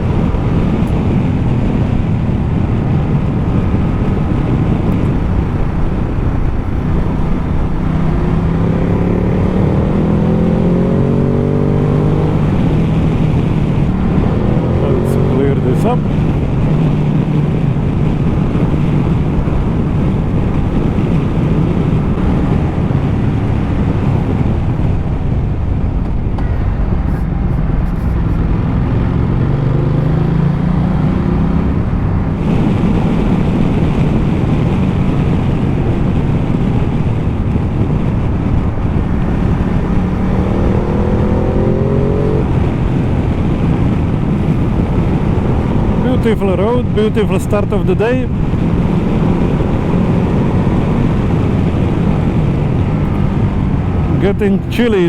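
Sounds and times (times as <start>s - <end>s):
motorcycle engine accelerating: 0.0s - 55.0s
wind rush over microphone: 0.0s - 55.0s.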